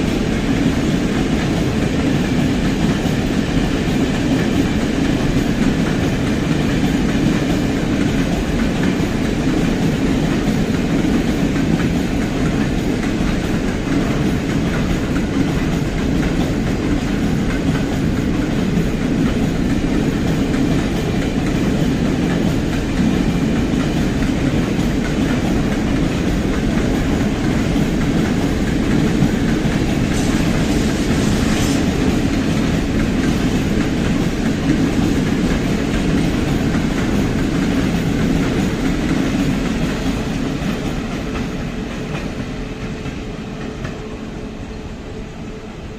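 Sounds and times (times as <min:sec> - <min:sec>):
train wheels clattering over rail joints: 0:00.0 - 0:44.0.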